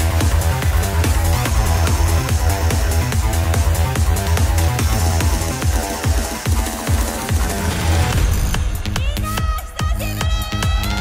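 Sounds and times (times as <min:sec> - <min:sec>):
loud trance music: 0:00.0 - 0:11.0
steady kick drum: 0:00.0 - 0:11.0.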